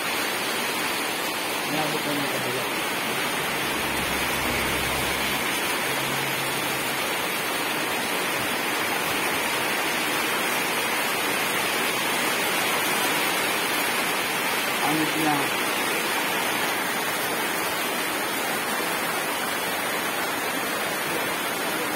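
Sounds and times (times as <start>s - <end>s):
rain on a metal roof: 0.0s - 21.9s.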